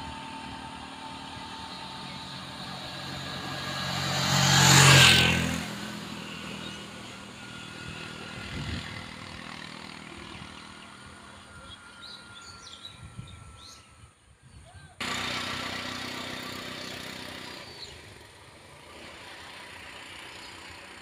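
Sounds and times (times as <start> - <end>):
auto-rickshaw engine passing: 0.0 - 14.1, 15.0 - 21.0.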